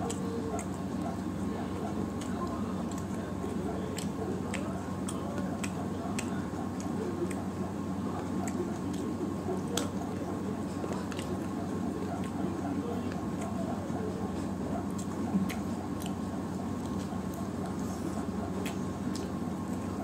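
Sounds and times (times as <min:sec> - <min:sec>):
steady low hum: 0:00.0 - 0:20.0
wet chewing and lip smacking: 0:00.0 - 0:20.0.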